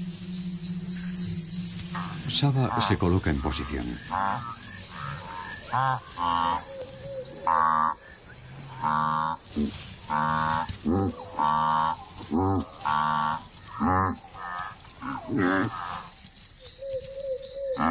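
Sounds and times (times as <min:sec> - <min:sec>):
wildebeest moo-like calls: 0:00.0 - 0:16.1, 0:17.6 - 0:17.9
pulsing insect trill: 0:00.0 - 0:17.9.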